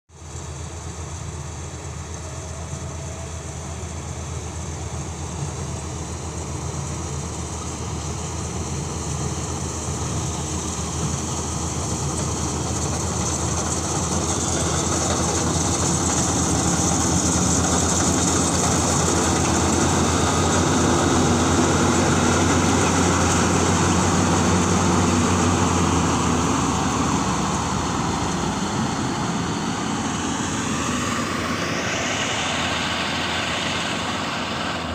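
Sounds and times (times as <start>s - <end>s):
combine harvester engine droning: 0.2s - 34.9s.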